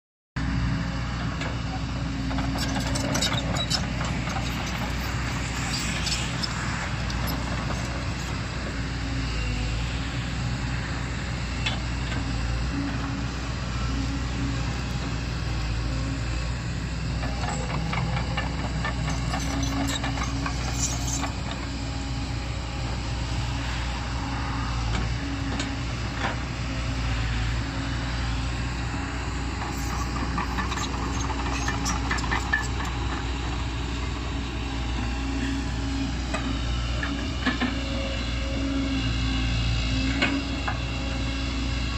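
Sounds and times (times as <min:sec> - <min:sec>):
excavator diesel engine running: 0:00.4 - 0:41.9
excavator scraping soil: 0:01.6 - 0:41.9.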